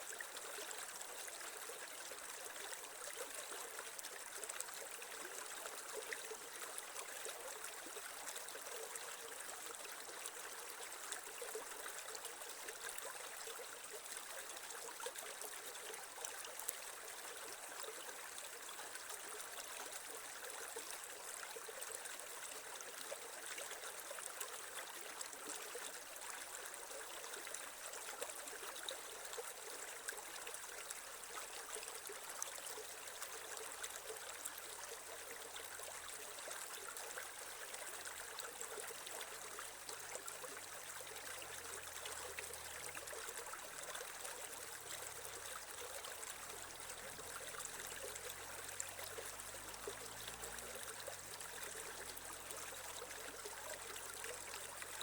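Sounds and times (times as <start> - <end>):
creek water running over stones: 0.0 - 55.0.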